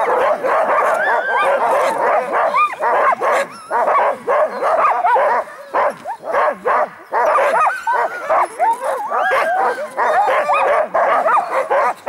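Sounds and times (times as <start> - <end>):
sled dogs yelping and whining: 0.0 - 12.0.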